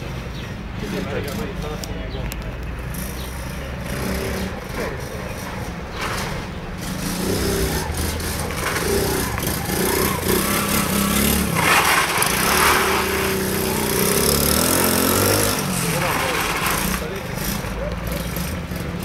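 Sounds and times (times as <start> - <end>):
quad bike engine revving: 2.8 - 19.0.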